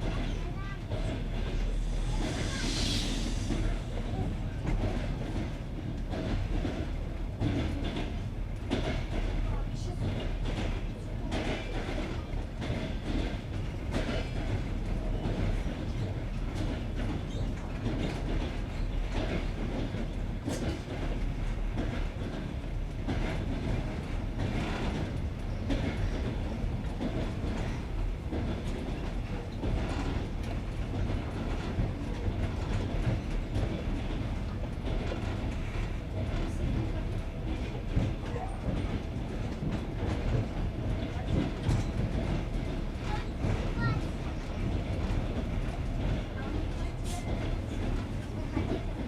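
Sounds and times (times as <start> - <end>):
train wheels clattering on rails: 3.4 - 49.0.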